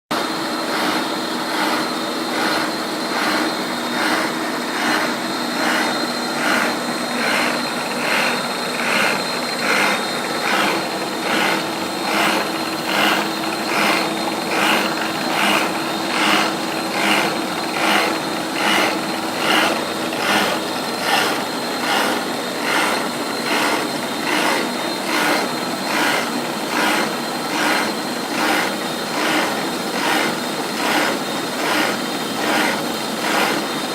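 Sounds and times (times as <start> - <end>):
pulsing metal cutting noise: 0.1 - 33.9
milling machine spindle tone: 0.2 - 33.9.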